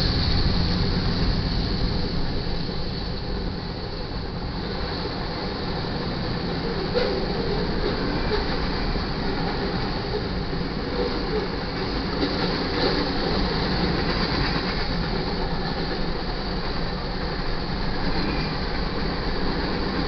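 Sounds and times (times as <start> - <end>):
freight cars rattling on rails: 0.0 - 20.0.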